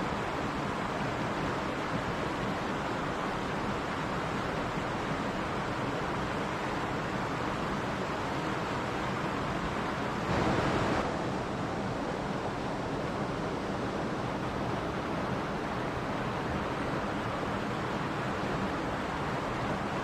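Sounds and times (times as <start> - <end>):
stream flowing over rocks: 0.1 - 20.0.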